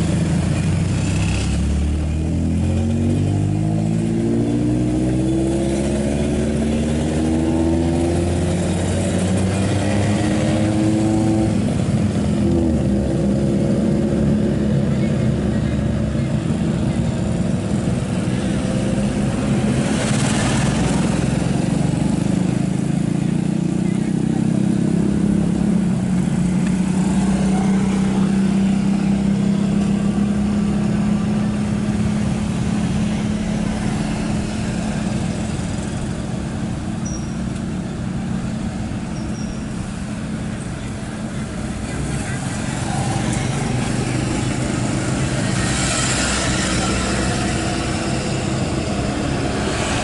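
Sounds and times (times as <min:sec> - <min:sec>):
road roller engine humming: 0:00.0 - 0:50.0.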